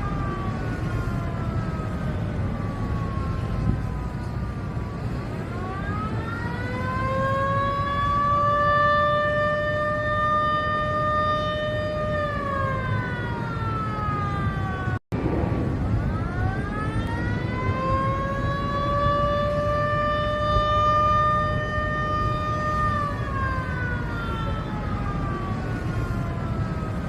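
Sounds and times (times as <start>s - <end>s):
warning siren wailing: 0.0s - 27.0s.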